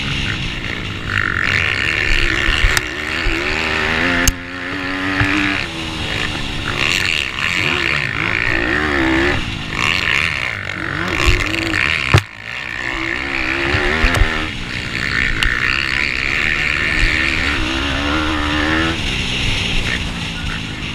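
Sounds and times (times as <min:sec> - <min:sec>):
motorbike engine revving: 0:00.0 - 0:20.9.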